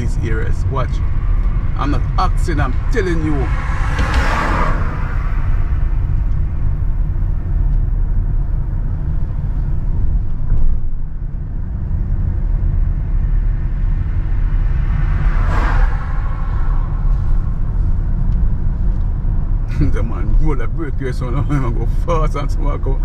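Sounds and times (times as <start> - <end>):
car rumbling on rough road: 0.0 - 23.0.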